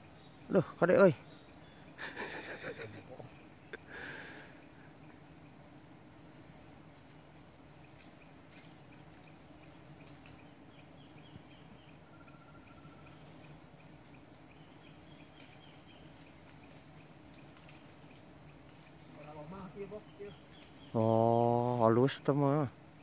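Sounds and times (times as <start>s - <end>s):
insects buzzing drone: 0.0s - 23.0s.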